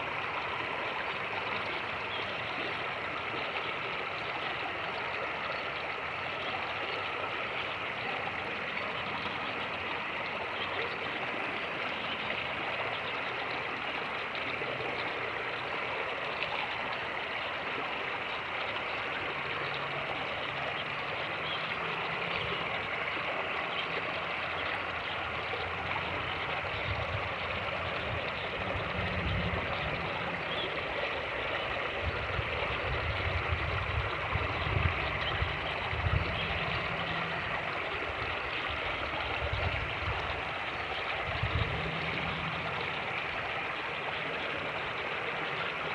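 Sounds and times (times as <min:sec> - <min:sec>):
creek rushing over rapids: 0:00.0 - 0:45.9.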